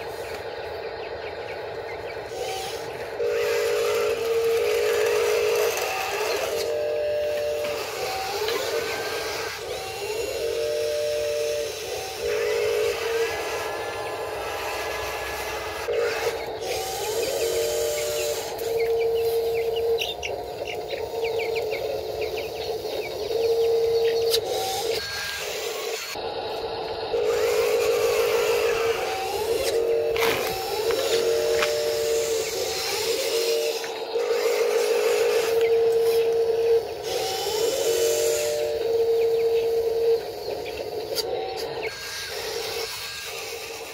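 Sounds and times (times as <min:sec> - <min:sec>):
toy electric motors whining: 0:00.0 - 0:43.9.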